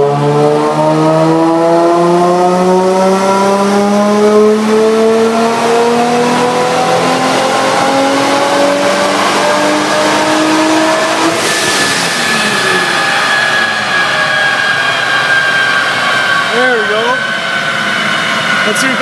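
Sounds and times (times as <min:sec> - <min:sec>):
car engine at full throttle: 0:00.0 - 0:19.0.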